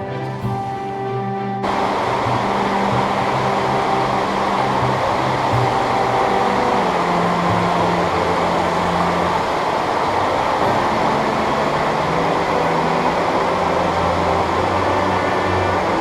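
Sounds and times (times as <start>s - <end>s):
low held music notes: 0.0s - 16.0s
waterfall rushing: 1.6s - 16.0s.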